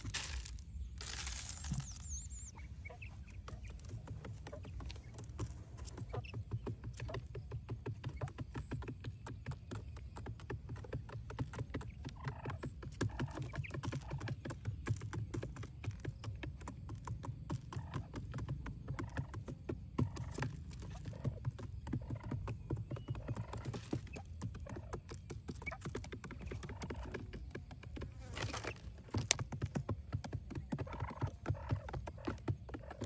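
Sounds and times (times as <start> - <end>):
rapid tapping and clicking: 3.7 - 28.3, 28.9 - 33.0.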